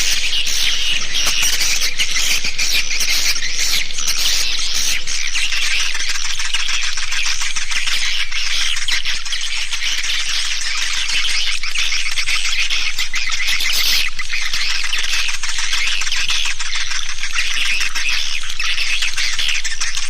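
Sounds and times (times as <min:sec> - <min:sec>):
swiftlets twittering: 0:00.0 - 0:20.0.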